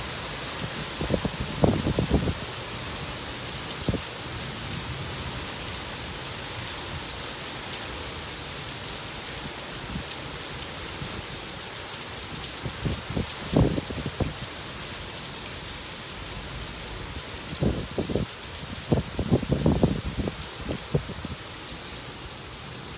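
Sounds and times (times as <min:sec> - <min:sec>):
rain on pavement and cars: 0:00.0 - 0:22.9.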